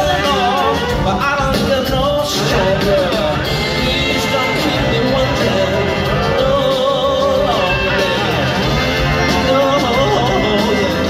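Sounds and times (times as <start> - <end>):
live blues-rock band playing: 0.0 - 11.0.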